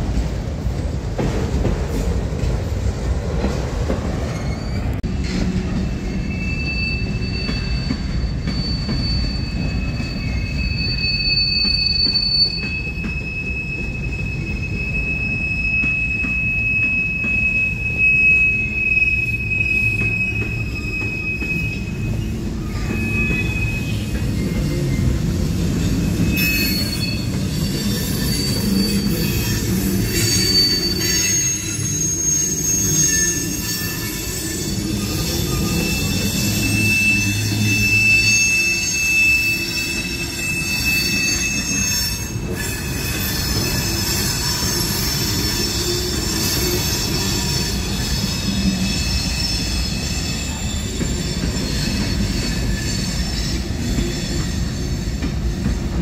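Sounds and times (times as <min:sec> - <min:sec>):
freight train wheels rumbling on rails: 0:00.0 - 0:56.0
high-pitched wheel squeals: 0:04.2 - 0:55.8.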